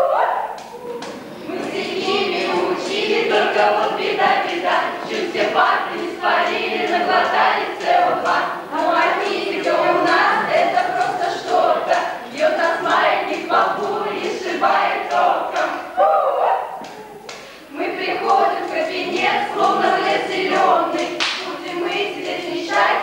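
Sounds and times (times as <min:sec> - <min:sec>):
choir of girls singing: 0:00.0 - 0:23.0.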